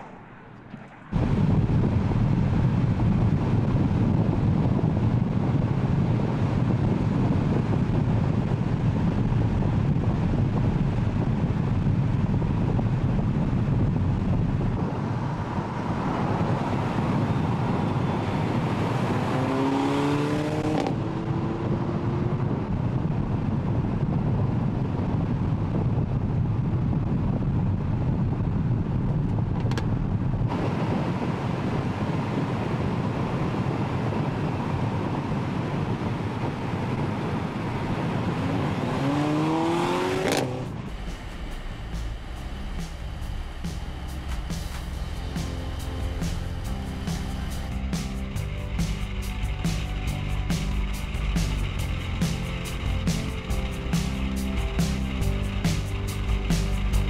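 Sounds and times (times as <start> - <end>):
car engine accelerating: 0.0 - 24.0, 30.5 - 57.0
road and wind noise: 0.0 - 57.0.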